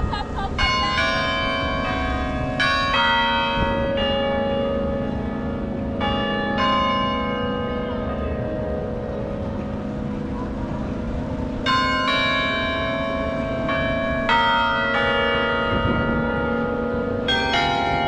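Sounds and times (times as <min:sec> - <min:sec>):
bells ringing at different pitches: 0:00.0 - 0:18.0.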